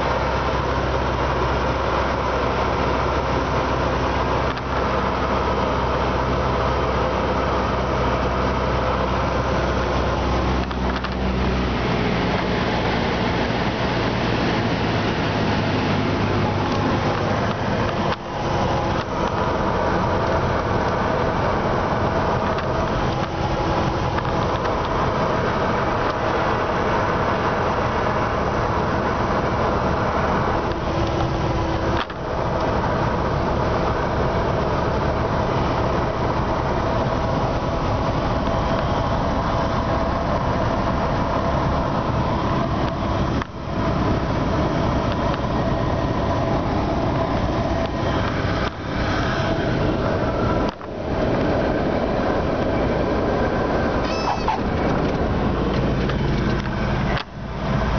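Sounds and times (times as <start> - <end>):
airplane engine drone: 0.0 - 57.9.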